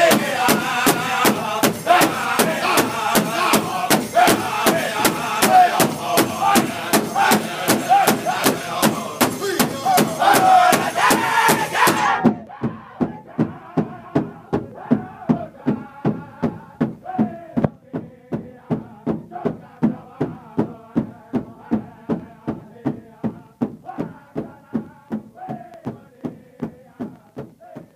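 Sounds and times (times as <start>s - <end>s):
large hide drum beating: 0.0s - 27.9s
men singing in chorus: 0.0s - 27.9s.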